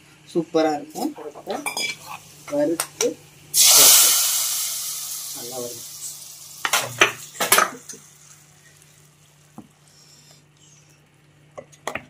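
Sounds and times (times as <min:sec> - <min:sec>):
hot ghee sizzling: 0:00.9 - 0:10.9.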